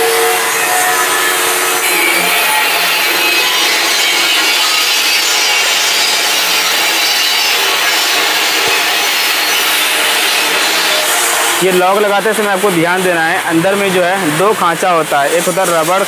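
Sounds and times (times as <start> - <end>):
loud steady noise: 0.0 - 16.0.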